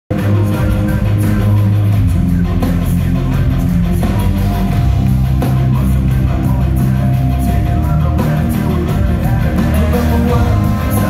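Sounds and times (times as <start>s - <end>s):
heavy metal band playing live: 0.1s - 11.0s.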